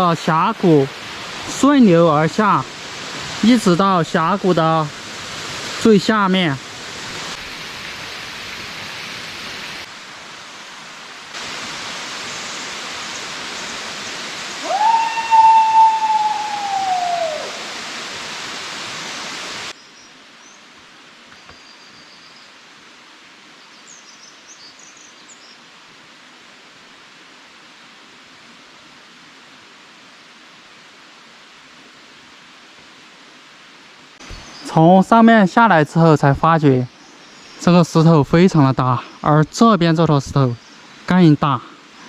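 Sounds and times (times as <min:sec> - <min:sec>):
stream water rushing over boulders: 0:00.0 - 0:21.5, 0:25.3 - 0:42.0.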